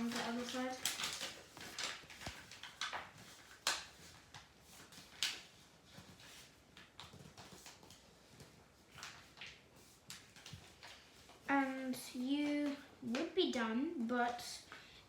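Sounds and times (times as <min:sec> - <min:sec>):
paper being folded and creased: 0:00.0 - 0:13.3.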